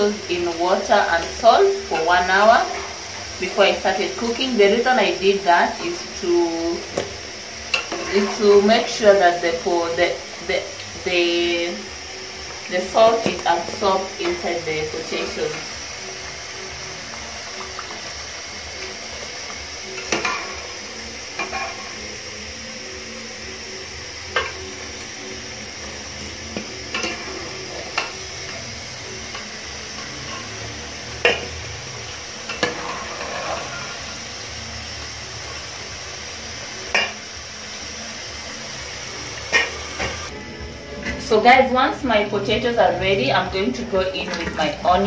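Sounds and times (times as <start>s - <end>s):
oil sizzling: 0.0s - 45.0s.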